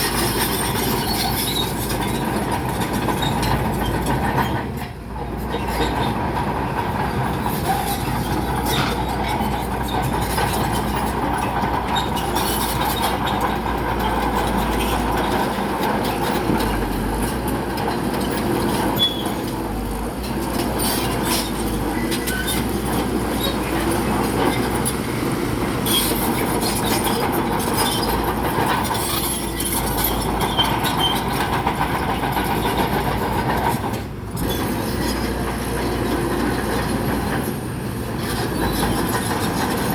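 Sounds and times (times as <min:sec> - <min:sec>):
bulldozer diesel engine: 0:00.0 - 0:39.9
metallic clanks of steel tracks: 0:00.0 - 0:39.9.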